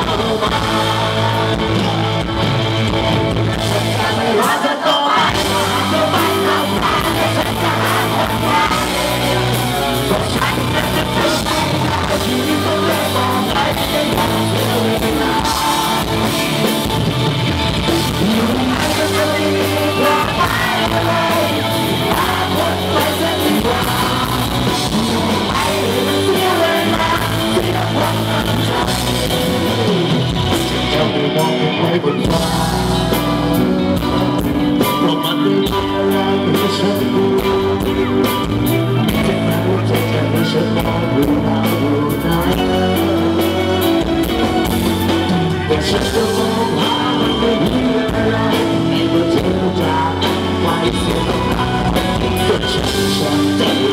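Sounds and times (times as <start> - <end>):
live pop-rock band: 0.0 - 53.9
man singing: 0.0 - 53.9.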